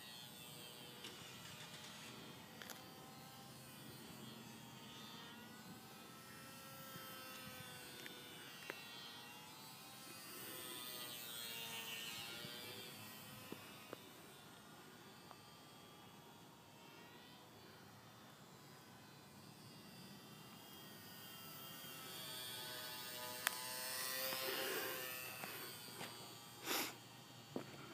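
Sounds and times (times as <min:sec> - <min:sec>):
rc plane motor buzzing whine: 0:00.0 - 0:27.9.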